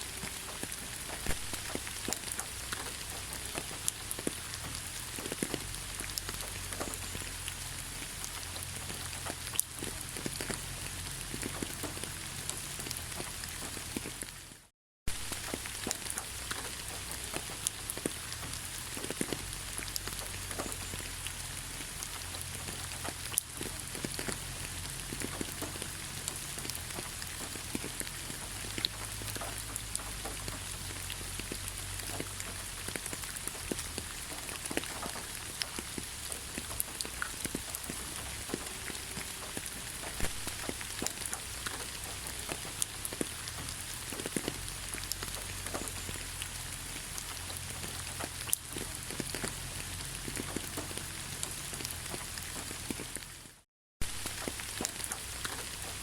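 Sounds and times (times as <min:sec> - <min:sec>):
raindrops ticking sharply: 0:00.0 - 0:56.0
steady rain falling: 0:00.0 - 0:56.0.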